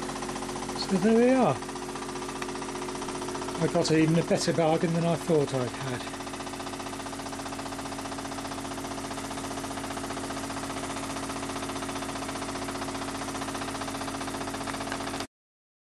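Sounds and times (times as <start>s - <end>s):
steam engine running on air: 0.0s - 15.3s.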